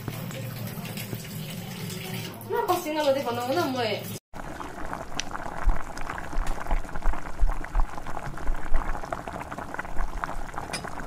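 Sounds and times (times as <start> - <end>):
pot bubbling and crackling: 0.0 - 11.0.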